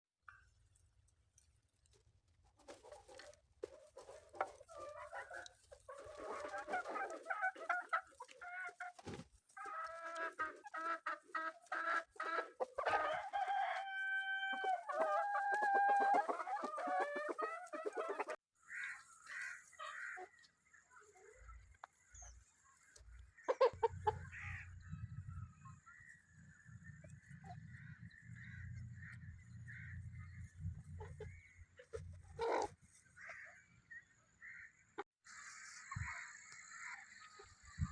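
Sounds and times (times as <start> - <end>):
chickens clucking: 2.6 - 18.4, 19.7 - 33.5, 34.9 - 37.9.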